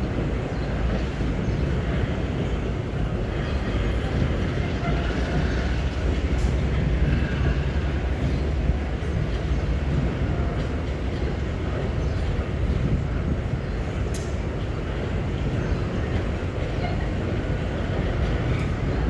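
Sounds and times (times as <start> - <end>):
freight train rumbling: 0.0 - 19.0.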